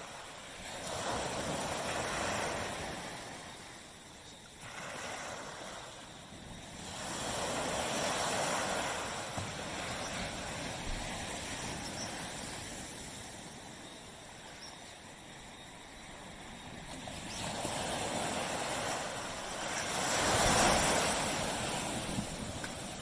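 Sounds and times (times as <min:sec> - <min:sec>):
small waves breaking on a beach: 0:00.0 - 0:23.0.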